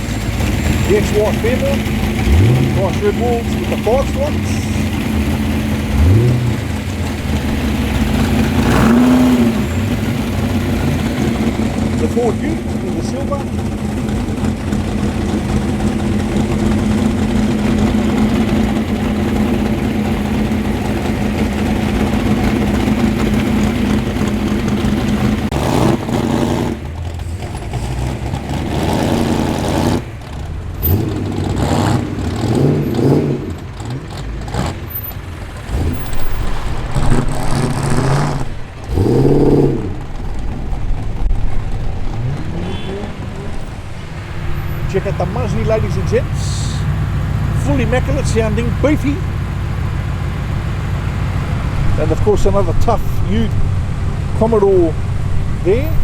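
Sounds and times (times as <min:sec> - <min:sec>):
car engines revving: 0:00.0 - 0:56.0
car engines rumbling: 0:00.0 - 0:56.0.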